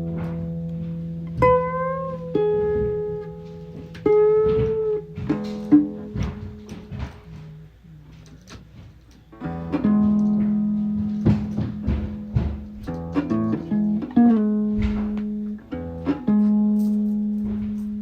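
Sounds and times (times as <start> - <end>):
guitar notes and chords: 0.0 - 7.4, 9.3 - 18.0
guitar picking clicks: 0.0 - 7.4, 8.2 - 18.0.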